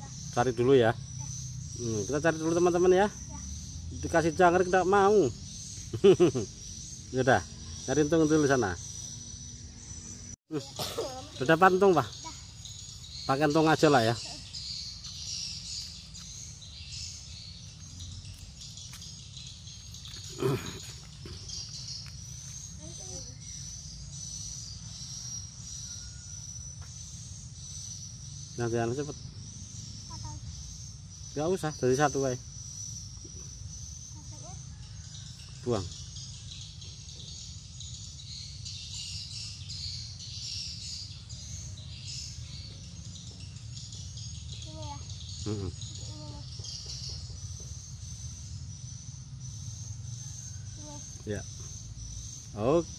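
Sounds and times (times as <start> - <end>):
birds chirping: 0.0 - 52.9
insects chirring: 0.0 - 52.9.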